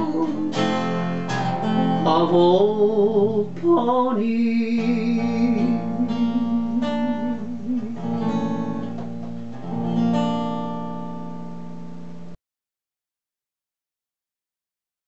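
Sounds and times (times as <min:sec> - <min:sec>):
acoustic guitar strumming chords: 0:00.0 - 0:12.4.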